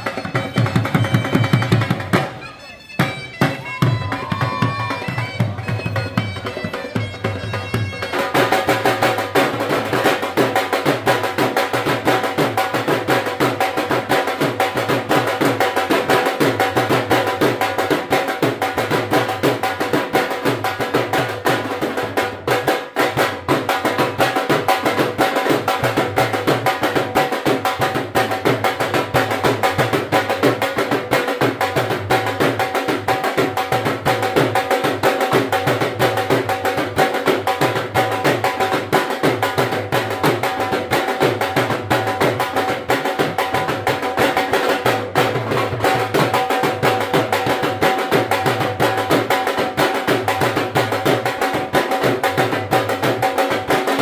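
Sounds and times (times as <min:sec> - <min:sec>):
dhol drumming fast beat: 0:00.0 - 0:54.0.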